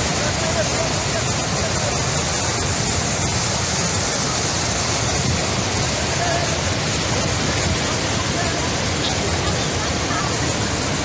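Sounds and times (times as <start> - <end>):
loud rushing water: 0.0 - 11.0.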